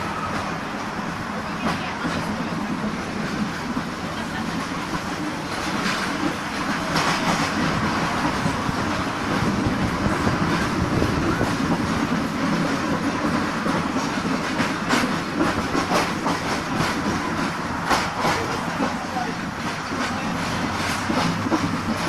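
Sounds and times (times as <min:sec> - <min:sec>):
tram rolling along track: 0:00.0 - 0:22.0
wheels clacking over rail joints: 0:00.0 - 0:22.0.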